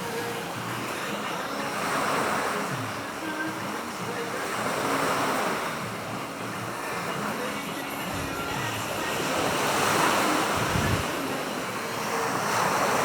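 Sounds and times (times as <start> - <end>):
ocean waves washing onto shore: 0.0 - 13.0.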